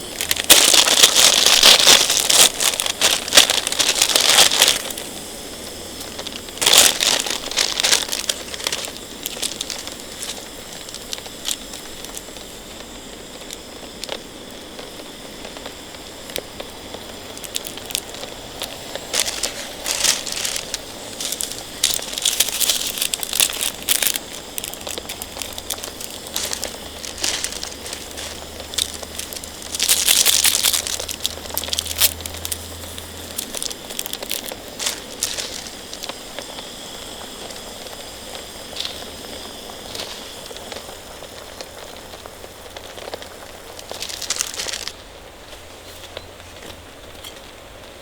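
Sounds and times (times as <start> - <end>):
crinkling rustling handling: 0.0 - 47.5
steady hiss: 0.0 - 48.0
sharp crackling ticks: 0.1 - 45.0.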